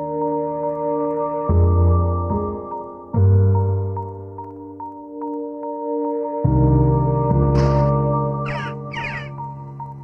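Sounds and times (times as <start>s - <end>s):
ambient film score music: 0.0s - 10.0s.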